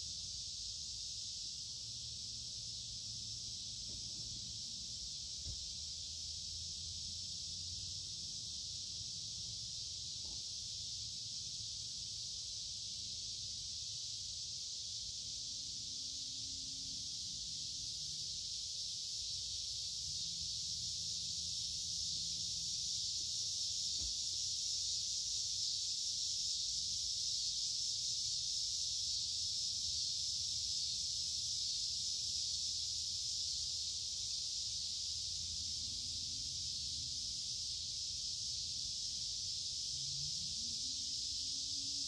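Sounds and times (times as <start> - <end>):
cicadas buzzing: 0.0 - 42.0.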